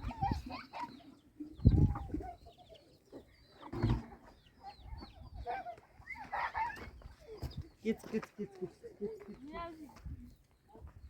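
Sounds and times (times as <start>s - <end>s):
chickens clucking and cheeping: 0.0s - 11.0s.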